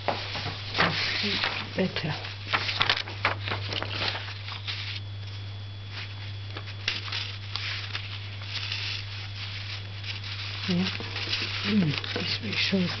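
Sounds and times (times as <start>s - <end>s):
paper rustling and tapping: 0.0s - 5.0s, 6.0s - 13.0s
low electrical hum: 0.0s - 13.0s.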